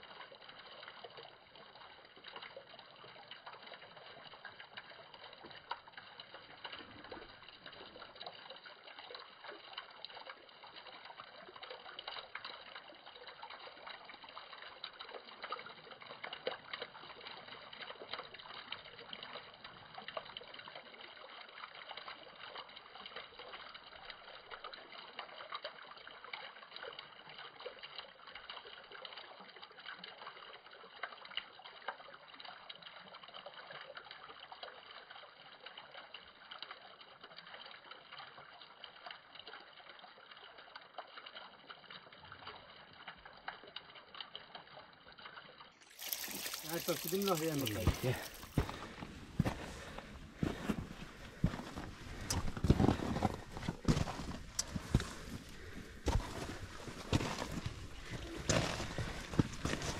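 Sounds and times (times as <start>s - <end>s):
small water splashes: 0.0s - 59.9s
stream trickling: 0.0s - 59.9s.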